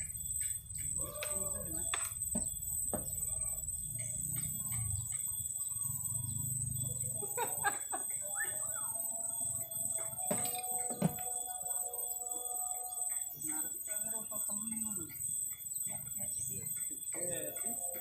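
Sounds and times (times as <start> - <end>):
small birds chirping: 0.0 - 18.0
thin high tone: 0.0 - 18.0.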